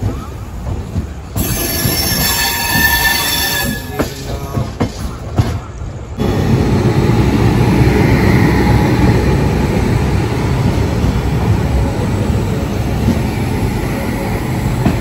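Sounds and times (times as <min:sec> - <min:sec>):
train wheels running on rails: 0:00.0 - 0:15.0.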